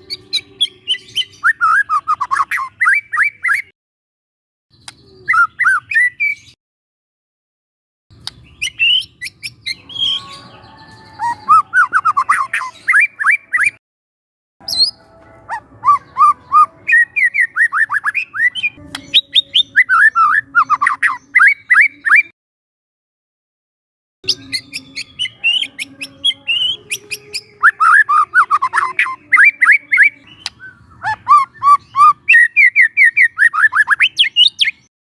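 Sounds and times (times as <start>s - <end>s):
bird singing whistled notes: 0.0s - 3.7s, 4.7s - 6.6s, 8.3s - 13.8s, 14.6s - 22.3s, 24.3s - 34.9s.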